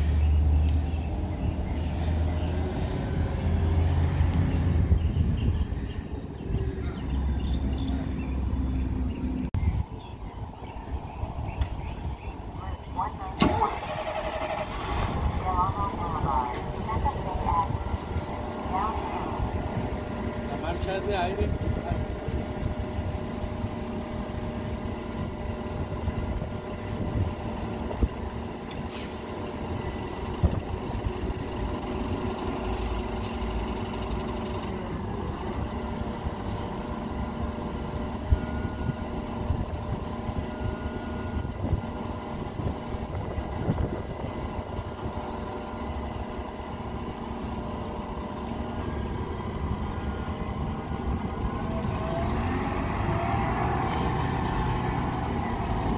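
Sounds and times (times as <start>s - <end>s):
bus engine idling: 0.0s - 55.9s.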